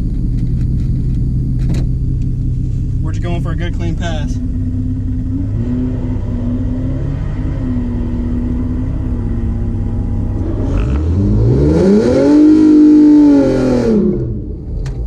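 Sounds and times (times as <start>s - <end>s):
drag car engine revving: 0.0s - 15.0s.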